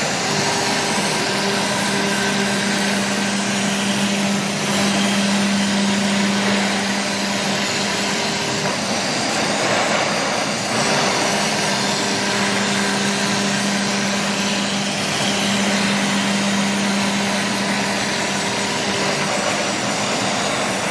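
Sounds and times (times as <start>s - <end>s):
router spindle hum: 0.0s - 20.9s.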